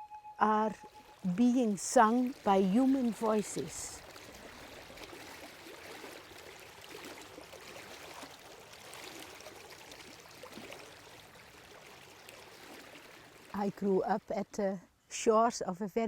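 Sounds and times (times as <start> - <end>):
faint stream running: 0.0 - 16.0.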